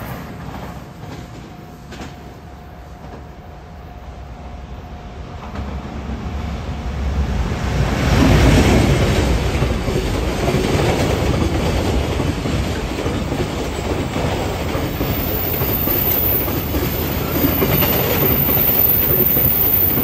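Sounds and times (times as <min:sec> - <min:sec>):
freight train passing: 0:00.0 - 0:20.0.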